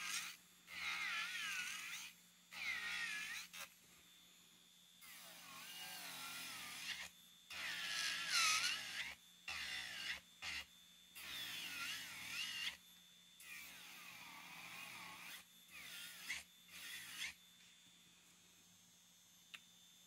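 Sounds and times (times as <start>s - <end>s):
nail drill whining: 0.0s - 4.2s, 5.0s - 17.4s.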